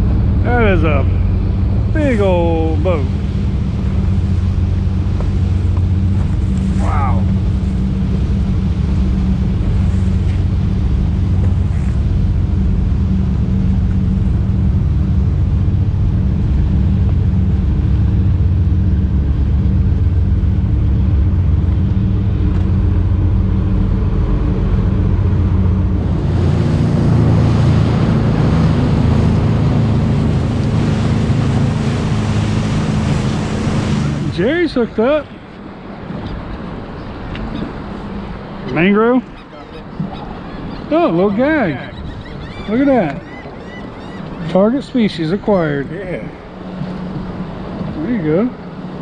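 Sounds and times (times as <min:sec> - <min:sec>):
outboard motor drone: 0:00.0 - 0:49.0
wind and water rushing: 0:00.0 - 0:49.0.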